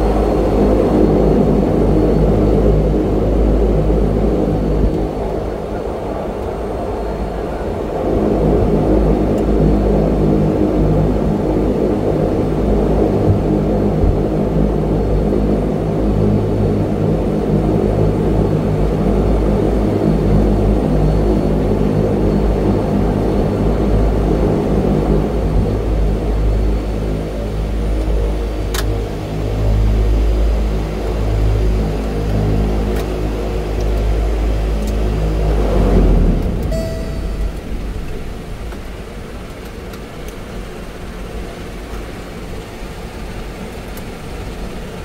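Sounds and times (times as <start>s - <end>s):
turboprop engines droning: 0.0s - 45.0s.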